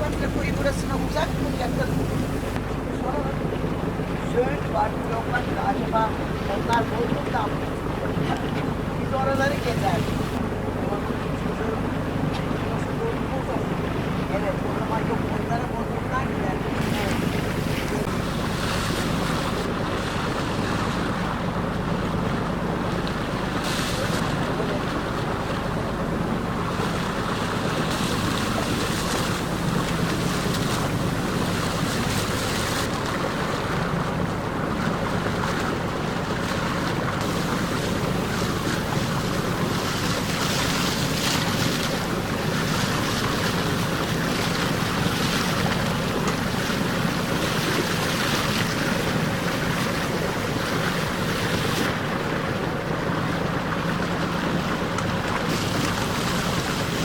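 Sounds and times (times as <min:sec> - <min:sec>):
boat engine humming: 0:00.0 - 0:57.0
water rushing along hull: 0:00.0 - 0:57.0
wind gusting on microphone: 0:00.0 - 0:57.0.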